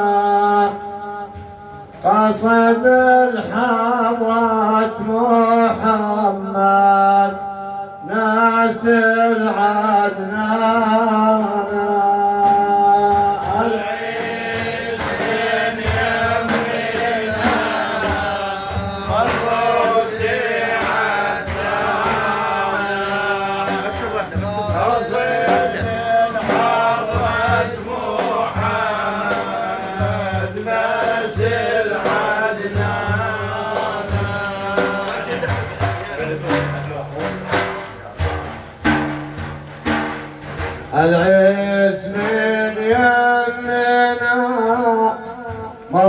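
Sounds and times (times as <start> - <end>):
men chanting together: 2.0 - 39.0, 39.8 - 46.0
frame drum strokes: 8.4 - 46.0.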